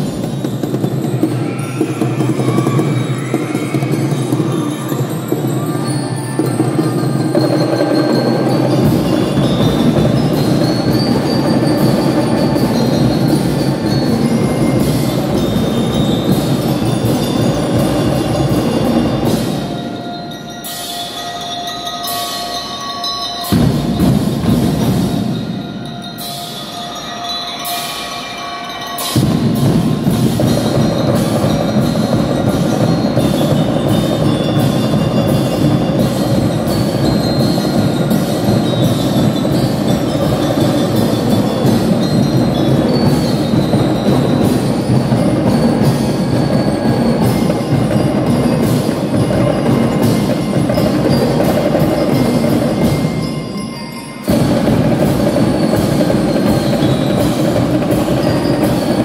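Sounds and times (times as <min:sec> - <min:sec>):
drums beating: 0:00.0 - 0:21.4, 0:23.4 - 0:27.9, 0:28.7 - 0:59.0
bell lyres melody: 0:00.0 - 0:59.0.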